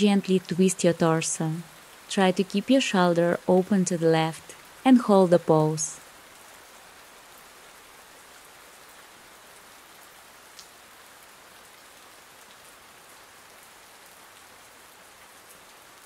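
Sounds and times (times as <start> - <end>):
soft rain falling: 0.0 - 16.0.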